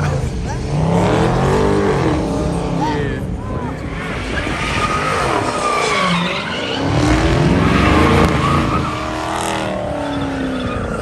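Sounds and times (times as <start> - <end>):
car engine revving hard: 0.0 - 11.0
tires squealing on pavement: 0.0 - 11.0.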